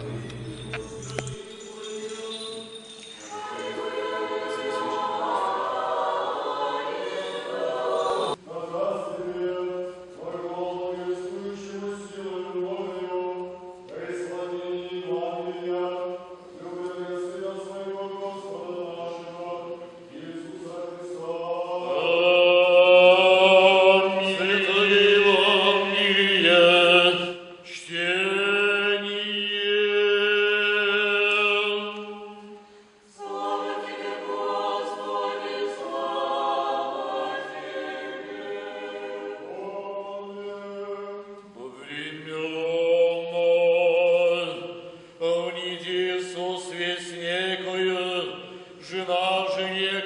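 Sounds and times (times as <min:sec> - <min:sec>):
choir singing chant: 0:00.0 - 0:50.0.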